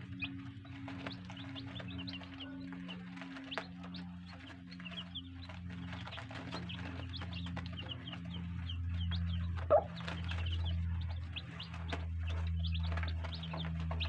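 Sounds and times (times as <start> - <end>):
chickens peeping: 0.0 - 14.0
steady low hum: 0.0 - 14.0.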